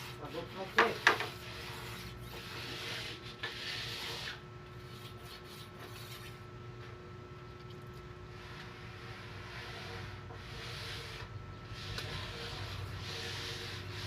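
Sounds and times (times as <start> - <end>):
steel rubbing on abrasive: 0.0 - 6.4, 8.4 - 14.0
steady hum: 0.0 - 14.0.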